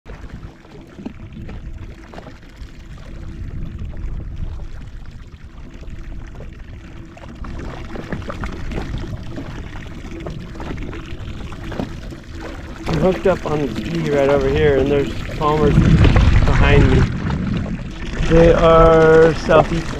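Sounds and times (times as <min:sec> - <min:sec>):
water splashing against hull: 0:00.0 - 0:19.9.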